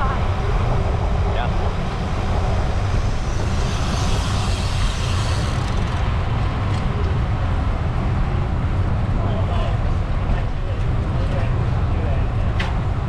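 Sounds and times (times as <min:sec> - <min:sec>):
bicycle rolling on road: 0:00.0 - 0:13.0
wind buffeting microphone: 0:00.0 - 0:13.0.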